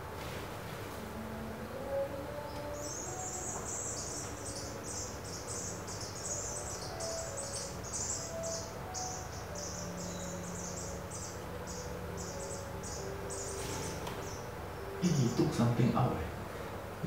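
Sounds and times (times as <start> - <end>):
nestlings chirping: 2.4 - 16.2.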